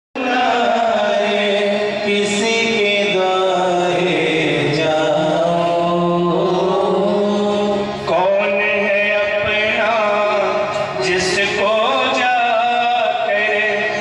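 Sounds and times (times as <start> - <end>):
devotional chanting over loudspeakers: 0.2 - 14.0
steady musical backing: 0.2 - 14.0.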